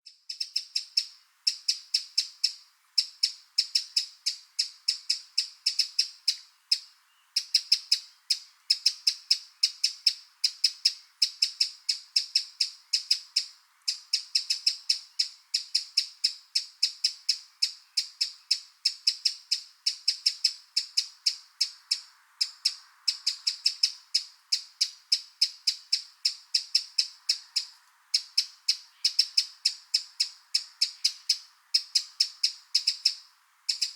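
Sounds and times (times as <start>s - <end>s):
bird ticking calls: 0.1s - 33.9s.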